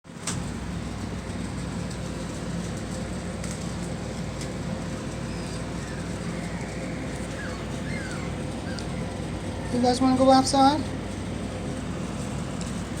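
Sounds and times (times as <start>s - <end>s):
mechanical hum and hiss: 0.1s - 13.0s.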